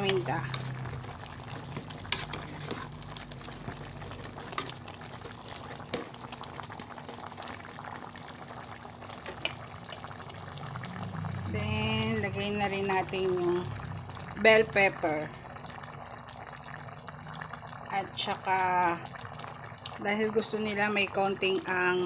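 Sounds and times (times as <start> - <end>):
stew bubbling in a pot: 0.0 - 22.0.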